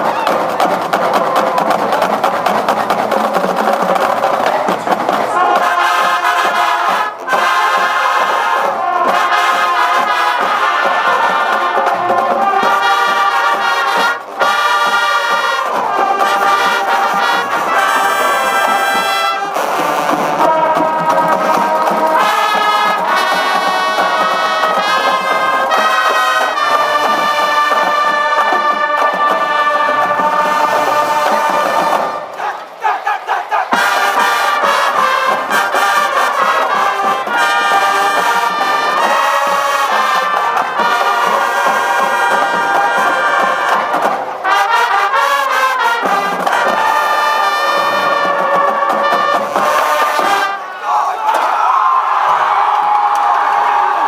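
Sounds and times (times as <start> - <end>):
marching band brass music: 0.0 - 51.9.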